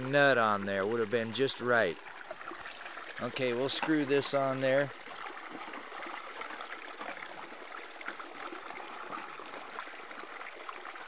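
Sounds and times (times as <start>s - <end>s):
water spraying and splashing: 0.0s - 11.0s.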